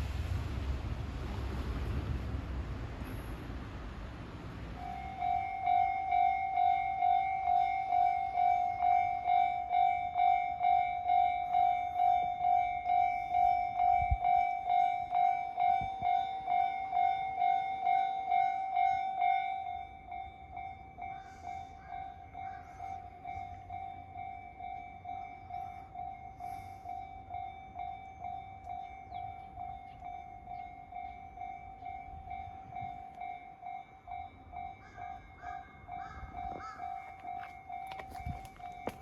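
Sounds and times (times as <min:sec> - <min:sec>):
level crossing bell: 0:04.8 - 0:39.0.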